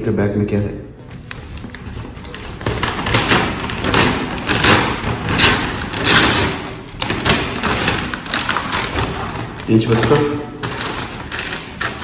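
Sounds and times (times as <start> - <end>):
items thudding: 1.0 - 12.0
shopping bag rustling: 1.0 - 12.0.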